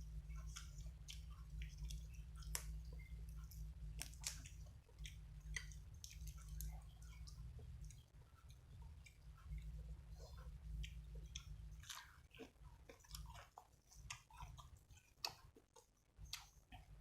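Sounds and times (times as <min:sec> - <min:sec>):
steady low hum: 0:00.0 - 0:17.0
wet chewing and mouth clicks: 0:00.0 - 0:17.0.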